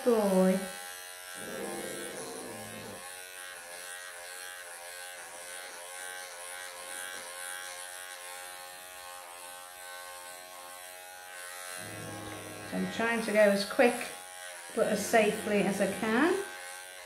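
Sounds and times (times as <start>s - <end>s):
electric pet clippers buzzing: 0.0s - 17.0s.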